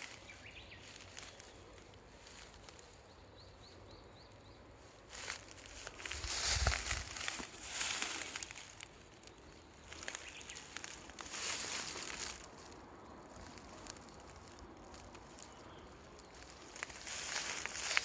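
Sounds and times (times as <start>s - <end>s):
rustling: 0.0s - 3.2s, 4.8s - 18.0s.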